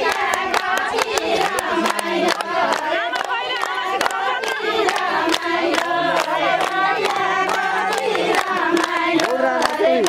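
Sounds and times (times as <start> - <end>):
rhythmic hand-clapping: 0.0 - 10.0
women singing folk song: 0.0 - 10.0.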